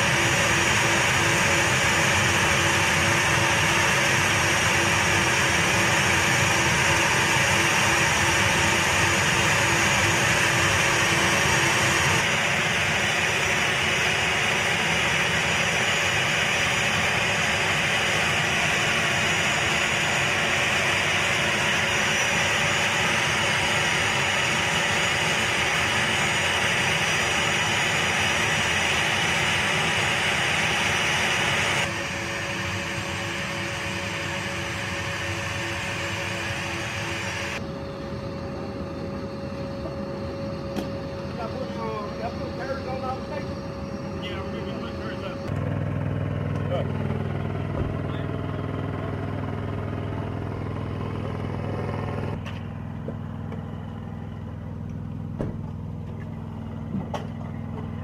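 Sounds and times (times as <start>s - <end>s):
jet turbine whine: 0.0s - 58.0s.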